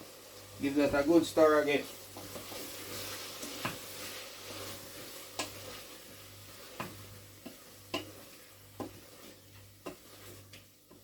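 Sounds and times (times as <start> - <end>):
food sizzling in pot: 0.0 - 11.0.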